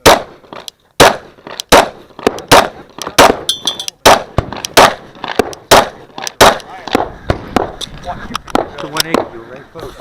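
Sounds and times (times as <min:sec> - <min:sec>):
pistol shots with echo: 0:00.0 - 0:07.8, 0:08.5 - 0:09.4.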